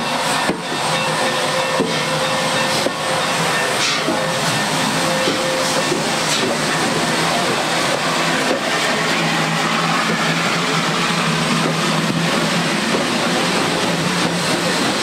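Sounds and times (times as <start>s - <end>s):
steam locomotive rushing noise: 0.0s - 15.0s.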